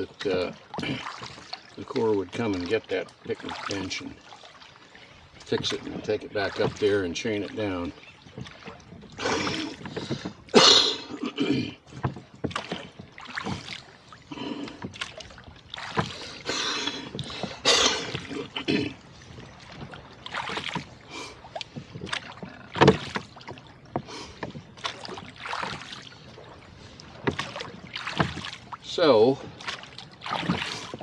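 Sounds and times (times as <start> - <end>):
oars splashing in water: 0.0 - 31.0.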